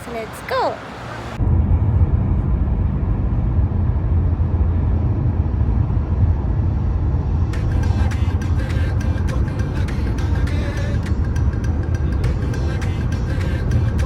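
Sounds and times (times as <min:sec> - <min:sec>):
vehicle interior rumble: 0:00.0 - 0:14.0.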